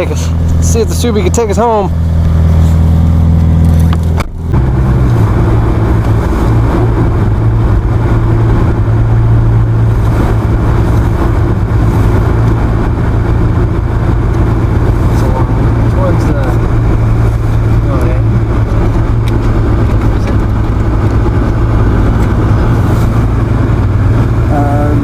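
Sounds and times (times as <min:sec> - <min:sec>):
car engine driving through snow: 0:01.9 - 0:25.0.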